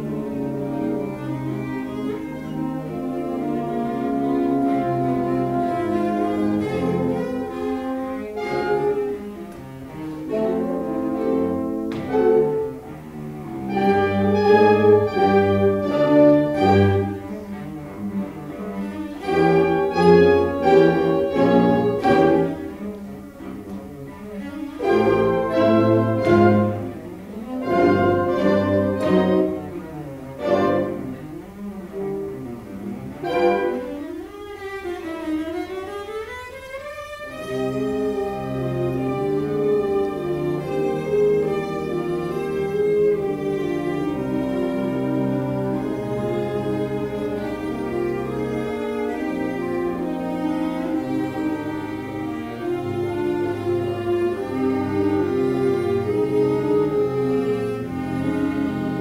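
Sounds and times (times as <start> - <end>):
solo cello bowed melody: 0.0 - 59.0
symphonic wind band: 0.0 - 59.0.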